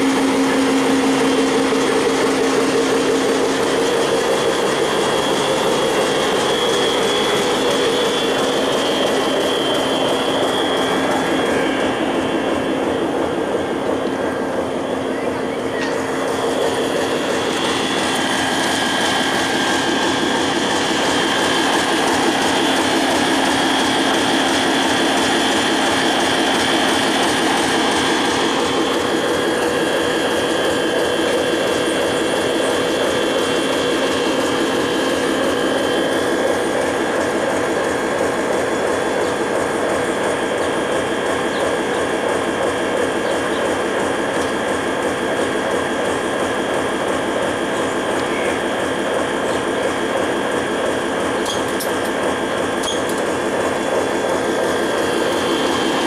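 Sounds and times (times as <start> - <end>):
diesel locomotive engine running: 0.0 - 56.0
high mechanical whines: 0.0 - 56.0.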